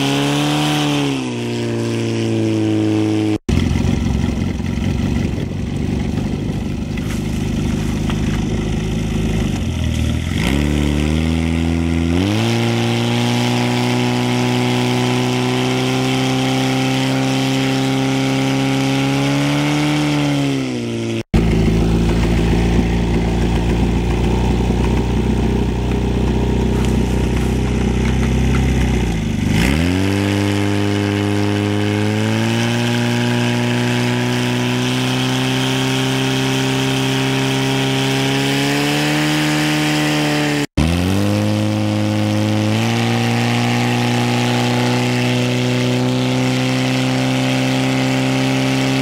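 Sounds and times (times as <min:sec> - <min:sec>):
pump engine revving: 0:00.0 - 0:49.0.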